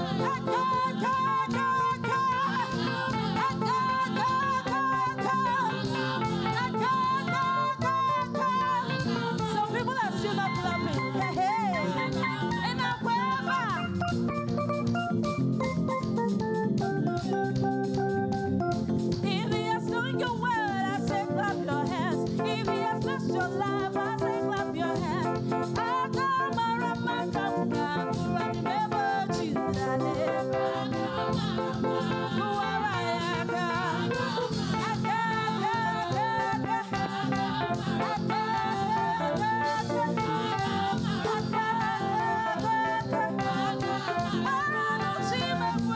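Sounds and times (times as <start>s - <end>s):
voices singing: 0.0s - 14.1s, 19.6s - 45.9s
keyboard chords: 0.0s - 45.9s
percussion: 0.0s - 45.9s.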